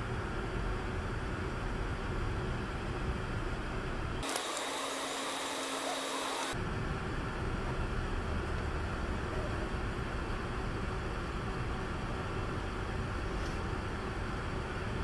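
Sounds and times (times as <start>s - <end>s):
car road and engine rumble: 0.0s - 4.2s, 6.5s - 15.0s.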